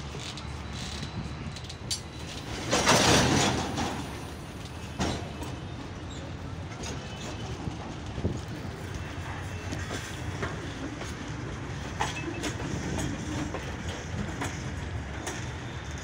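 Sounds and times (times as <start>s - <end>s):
freight wagons rolling past: 0.0s - 16.0s.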